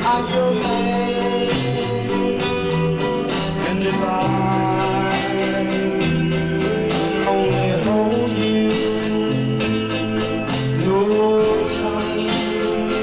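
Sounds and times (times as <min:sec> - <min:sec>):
guitar accompaniment: 0:00.0 - 0:13.0.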